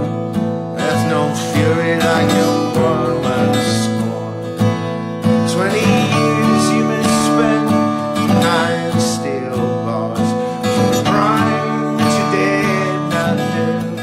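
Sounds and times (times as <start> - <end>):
strummed acoustic guitar music: 0.0 - 14.0.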